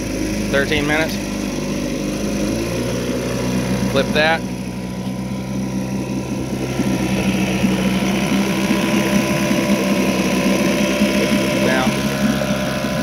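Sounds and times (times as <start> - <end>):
outboard motor idling: 0.0 - 13.0
propeller churning water: 0.0 - 13.0.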